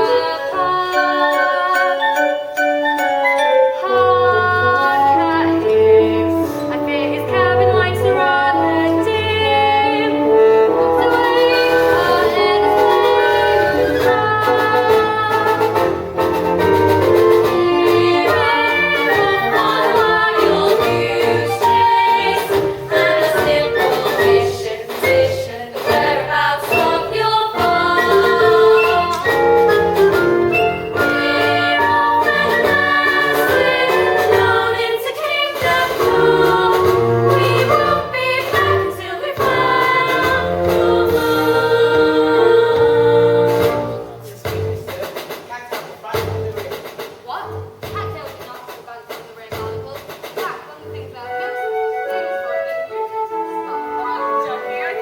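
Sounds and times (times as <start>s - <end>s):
young performers singing: 0.0s - 2.6s, 3.8s - 45.2s
instrumental accompaniment with bass: 0.0s - 45.4s.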